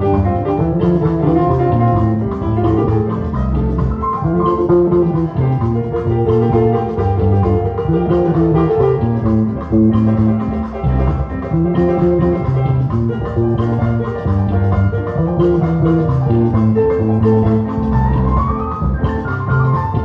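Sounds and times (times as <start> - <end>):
drums: 0.0 - 20.0
electric bass guitar bassline: 0.0 - 20.0
guitar: 0.0 - 20.0.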